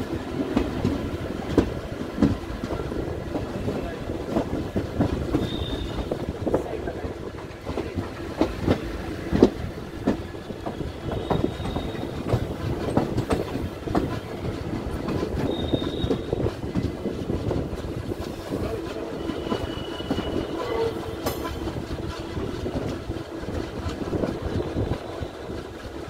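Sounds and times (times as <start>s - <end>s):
train rumble: 0.0s - 26.0s
train wheels clattering on rails: 0.0s - 26.0s.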